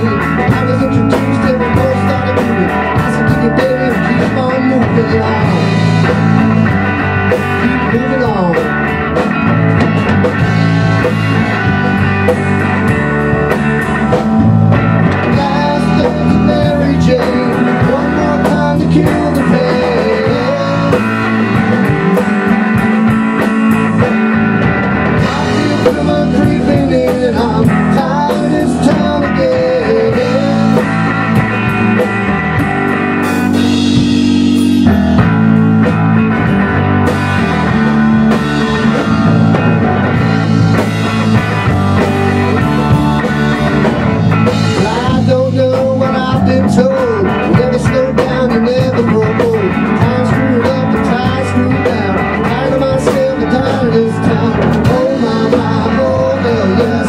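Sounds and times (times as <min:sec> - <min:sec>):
drum kit: 0:00.0 - 0:57.0
electric bass: 0:00.0 - 0:57.0
electric guitar: 0:00.0 - 0:57.0.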